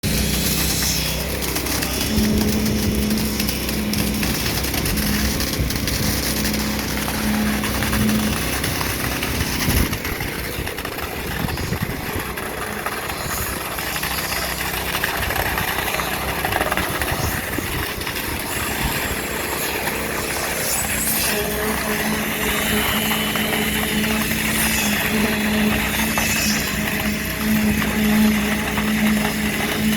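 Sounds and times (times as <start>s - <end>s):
diesel engine running under load: 0.0s - 29.9s
pulsing pump tone: 0.0s - 29.9s.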